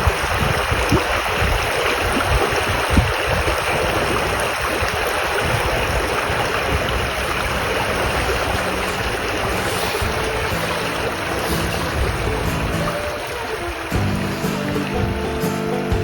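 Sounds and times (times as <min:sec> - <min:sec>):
flowing stream water: 0:00.0 - 0:16.0.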